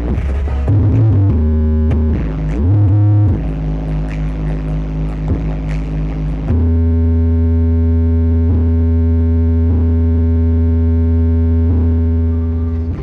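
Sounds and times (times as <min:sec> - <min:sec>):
deep synthesizer bass note: 0:00.0 - 0:13.0
loud electronic music: 0:00.0 - 0:13.0.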